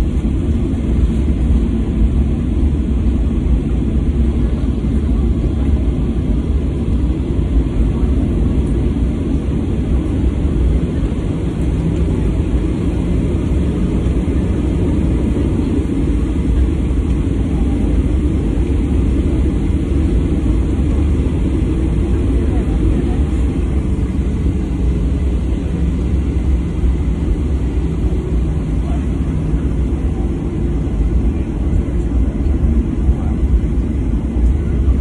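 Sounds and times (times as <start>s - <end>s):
airplane cabin low rumble: 0.0s - 35.0s.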